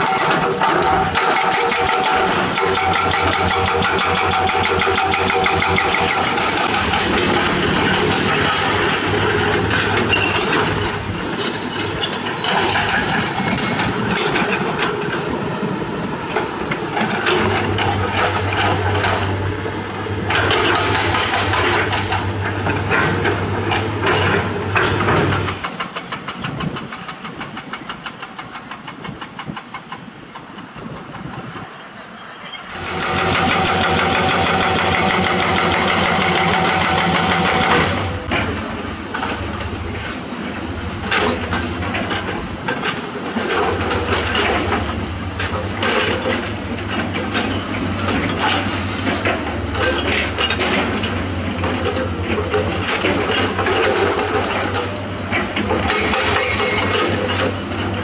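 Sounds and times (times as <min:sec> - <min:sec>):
engine running: 0:00.0 - 0:28.5, 0:32.7 - 0:58.0.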